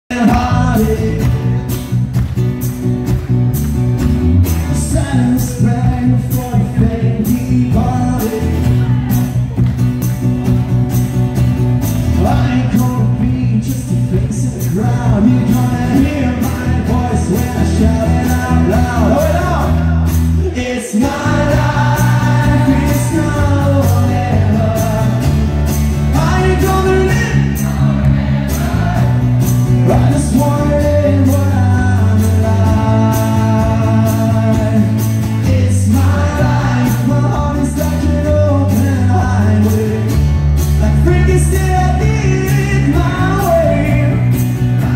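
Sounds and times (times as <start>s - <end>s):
man singing: 0.0s - 1.7s, 4.6s - 9.6s, 12.1s - 44.9s
live country-rock band: 0.1s - 44.9s.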